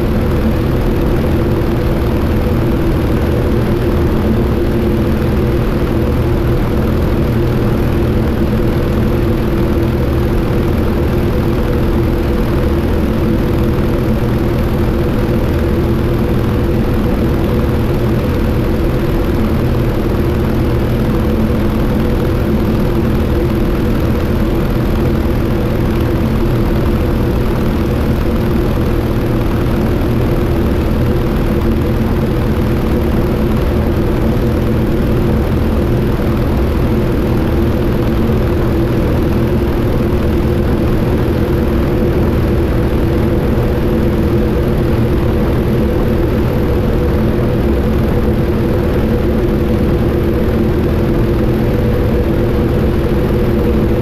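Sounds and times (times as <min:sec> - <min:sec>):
radial aircraft engine and propeller: 0:00.0 - 0:54.0.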